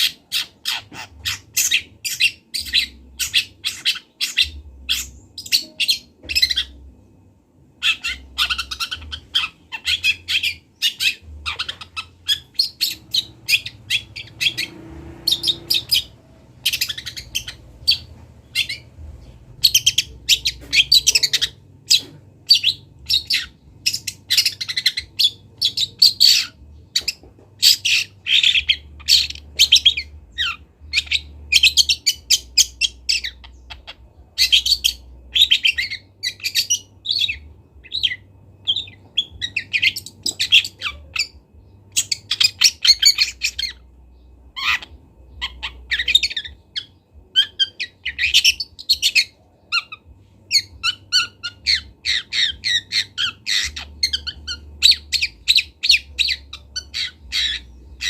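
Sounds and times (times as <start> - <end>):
young bird chirping song: 0.0 - 58.0.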